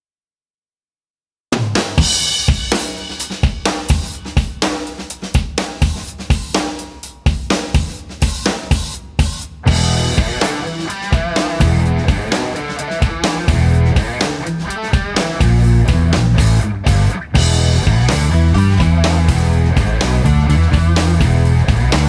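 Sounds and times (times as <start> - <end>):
drum kit playing a steady beat: 1.5 - 22.0.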